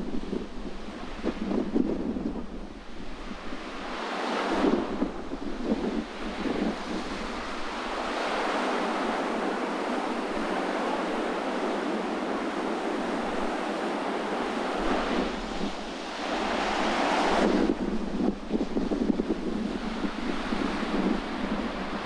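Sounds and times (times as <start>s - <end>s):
sea surf on shore: 0.0s - 22.0s
wind buffeting microphone: 0.0s - 22.0s.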